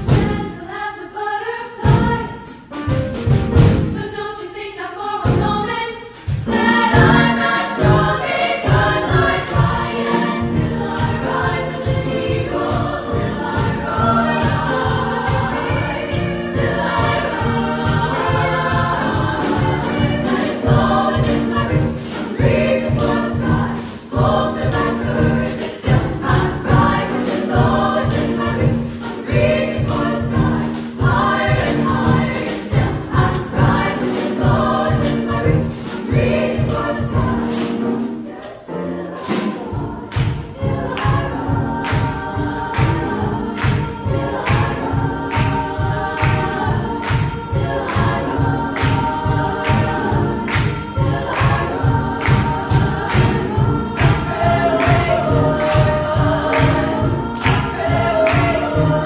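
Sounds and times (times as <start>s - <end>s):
women's choir singing in harmony: 0.0s - 59.0s.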